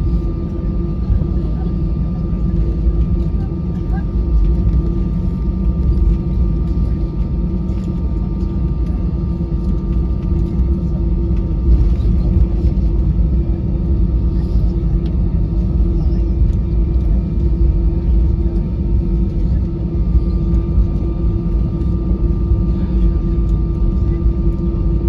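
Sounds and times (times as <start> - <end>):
aircraft cabin rumble: 0.0 - 25.0
faint engine whines: 0.0 - 25.0.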